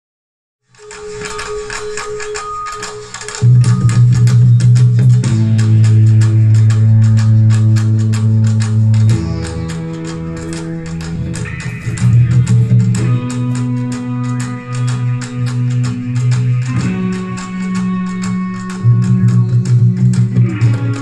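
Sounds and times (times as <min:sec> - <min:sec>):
hand drums beating: 0:00.9 - 0:21.0
live band with guitar and keyboard: 0:01.0 - 0:21.0.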